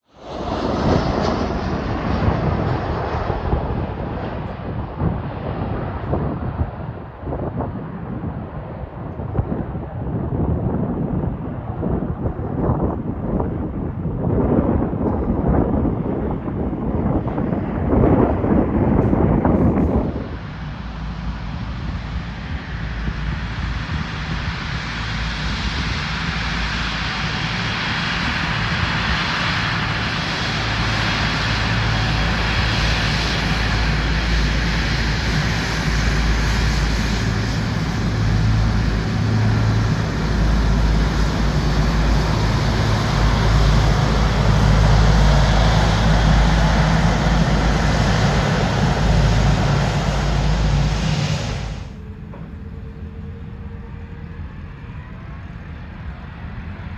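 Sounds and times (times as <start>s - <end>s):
airliner engines roaring: 0.0s - 56.9s.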